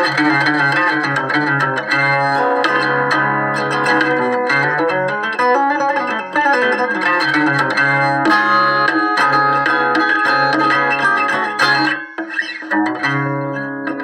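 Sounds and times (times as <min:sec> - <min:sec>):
resonator guitar fingerpicking: 0:00.0 - 0:14.0.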